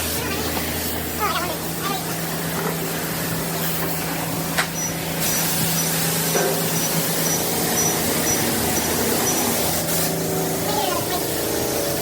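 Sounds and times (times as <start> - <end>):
pressure washer spraying water: 0.0 - 12.0
pump humming: 0.0 - 12.0.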